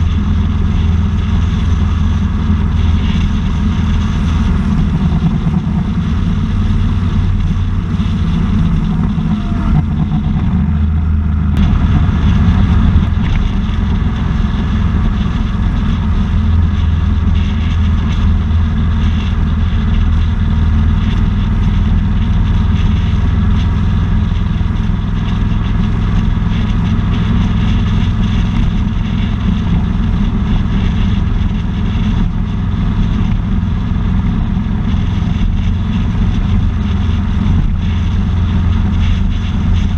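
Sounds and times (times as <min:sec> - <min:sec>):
motorcycle engine running: 0:00.0 - 0:39.9
road noise: 0:00.0 - 0:39.9
wind rush on microphone: 0:00.0 - 0:39.9.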